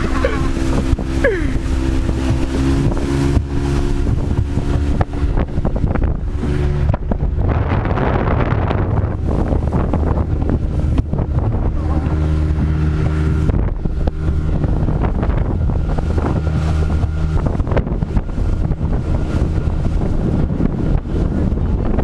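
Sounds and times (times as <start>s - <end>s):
boat motor humming: 0.0s - 22.0s
wind buffeting microphone: 0.0s - 22.0s.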